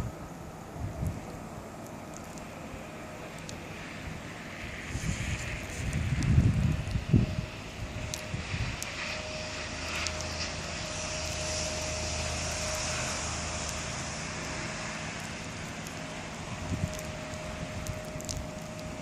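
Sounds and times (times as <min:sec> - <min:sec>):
distant engine drone: 0:00.0 - 0:19.0
thin constant whine: 0:00.0 - 0:19.0.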